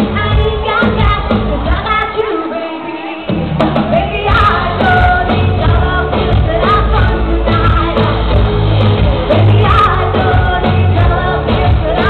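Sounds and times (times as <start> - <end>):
loud band with bass beat: 0.0 - 2.5, 3.1 - 12.0
woman singing into microphone: 0.0 - 3.3, 3.9 - 12.0.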